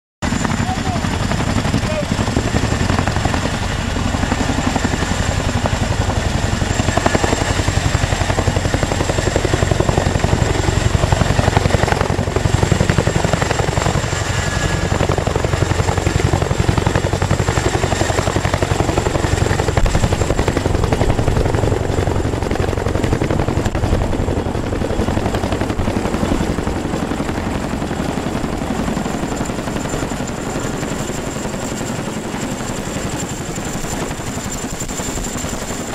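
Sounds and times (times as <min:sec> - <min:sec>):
helicopter rotors beating: 0:00.2 - 0:35.9.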